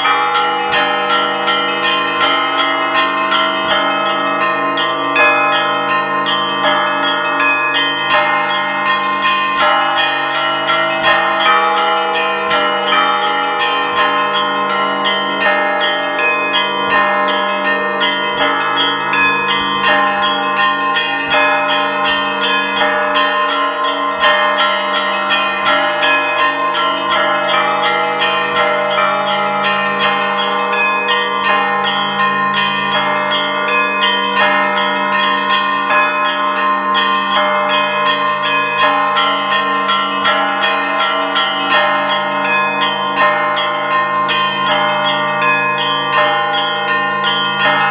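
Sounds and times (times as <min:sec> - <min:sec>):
large bells humming: 0:00.0 - 0:47.9
small church bells striking rapidly: 0:00.0 - 0:47.9.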